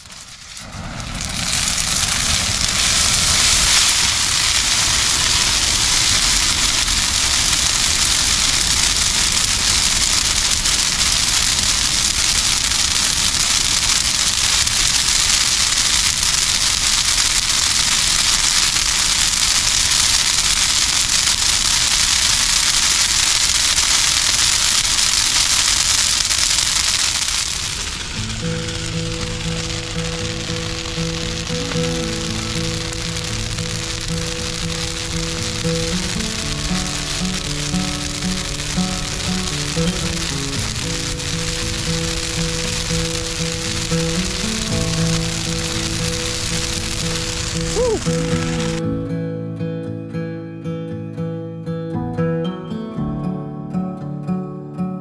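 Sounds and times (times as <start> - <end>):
fire crackling and hissing: 0.0 - 49.0.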